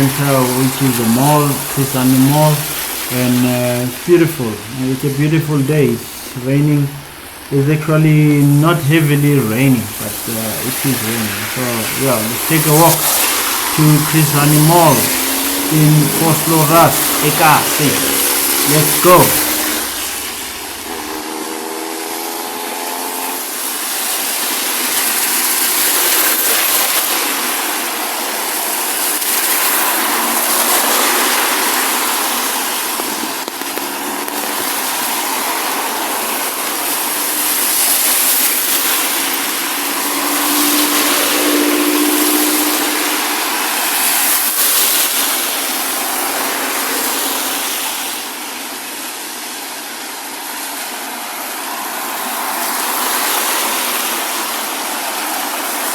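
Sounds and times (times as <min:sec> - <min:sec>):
rain hiss: 0:00.0 - 0:55.9
traffic on wet road: 0:00.0 - 0:55.9.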